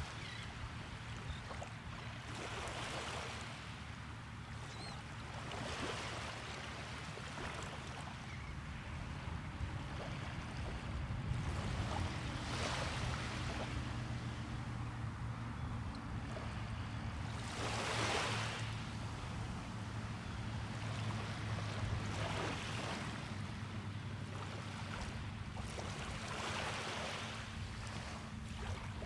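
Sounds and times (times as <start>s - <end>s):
small waves breaking on beach: 0.0s - 4.4s, 5.1s - 8.3s, 9.7s - 15.6s, 16.2s - 29.0s.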